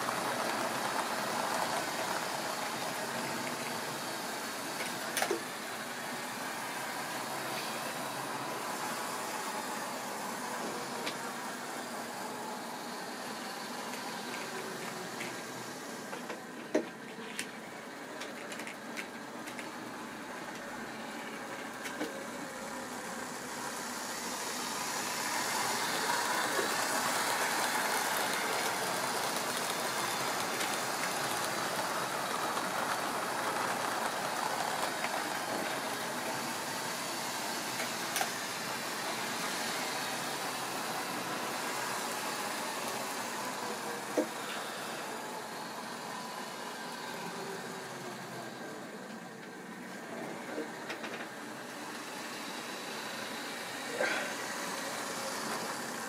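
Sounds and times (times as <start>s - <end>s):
model train motors whirring: 0.0s - 56.0s.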